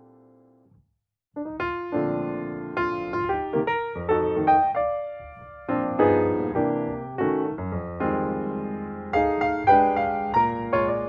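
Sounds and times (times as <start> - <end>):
piano music: 1.4 - 11.0.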